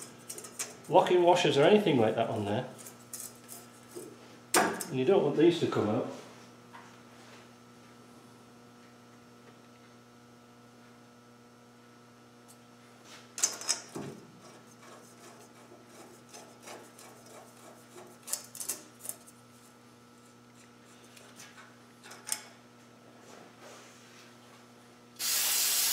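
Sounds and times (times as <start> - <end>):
steady electrical hum: 0.0 - 25.9.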